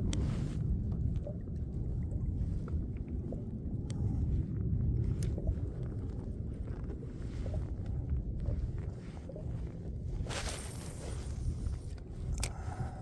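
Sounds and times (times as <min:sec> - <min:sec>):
water lapping at hull: 0:00.0 - 0:13.0
wind on microphone: 0:00.0 - 0:13.0.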